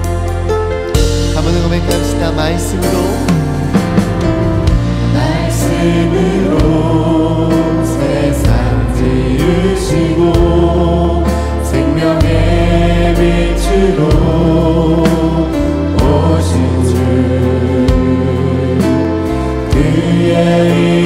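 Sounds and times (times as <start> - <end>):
choir singing worship song: 0.0 - 0.6, 2.5 - 21.0
bass notes: 0.0 - 21.0
keyboard: 0.0 - 21.0.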